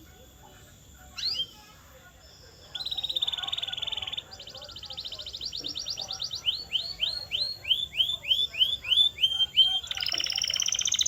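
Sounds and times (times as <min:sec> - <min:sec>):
canary singing: 0:01.1 - 0:01.8, 0:02.5 - 0:11.0.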